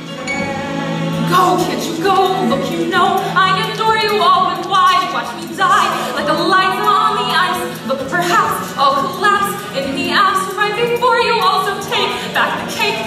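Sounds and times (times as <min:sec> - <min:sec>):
voices singing with vibrato: 0:00.0 - 0:13.0.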